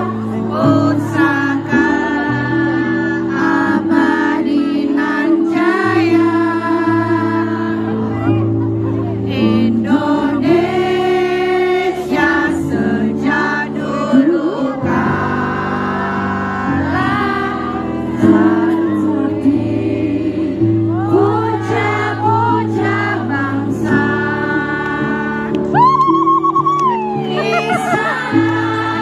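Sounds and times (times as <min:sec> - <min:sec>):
woman singing into microphone: 0:00.0 - 0:08.4, 0:09.3 - 0:29.0.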